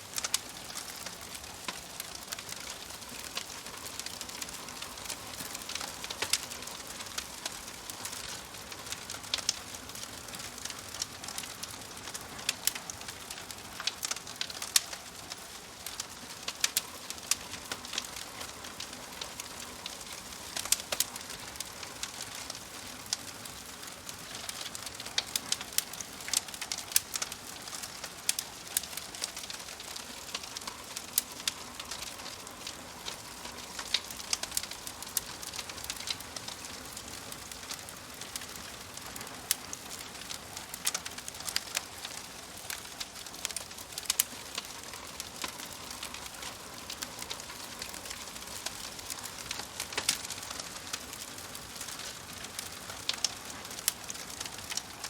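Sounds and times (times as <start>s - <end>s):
sharp pops and snaps of fire: 0.0s - 55.0s
soft steady hiss: 0.0s - 55.0s
wood fire crackling: 0.0s - 55.0s.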